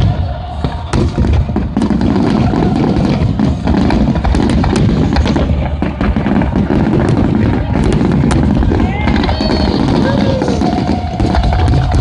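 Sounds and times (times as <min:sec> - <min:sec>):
firework cracks: 0:00.0 - 0:12.0
firework shells booming: 0:00.0 - 0:12.0.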